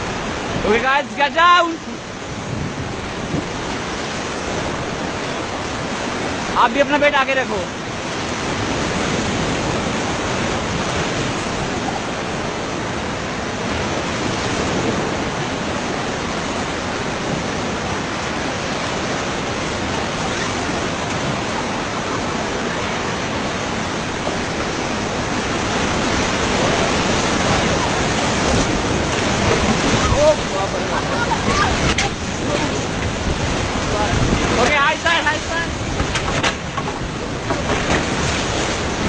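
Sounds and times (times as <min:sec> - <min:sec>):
river rapids rushing: 0:00.0 - 0:39.0.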